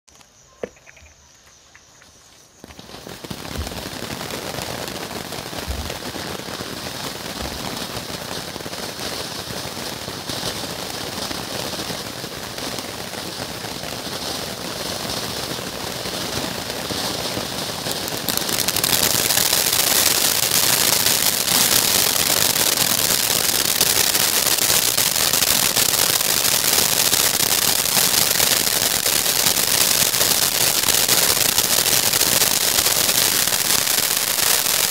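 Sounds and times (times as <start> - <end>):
firework fountain spraying sparks: 2.6 - 34.9.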